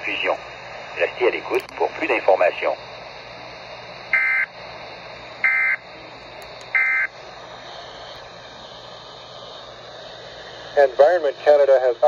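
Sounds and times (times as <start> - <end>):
broadcast hiss: 0.0 - 12.0.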